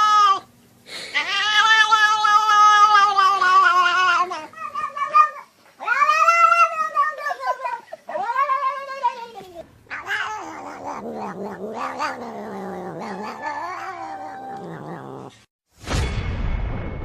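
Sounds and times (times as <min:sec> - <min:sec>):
cat yowling: 0:00.0 - 0:00.5, 0:01.1 - 0:15.3.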